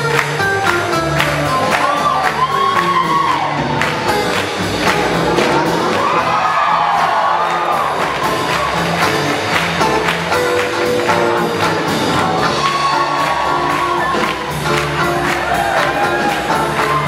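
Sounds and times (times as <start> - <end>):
swing band playing: 0.0 - 17.0.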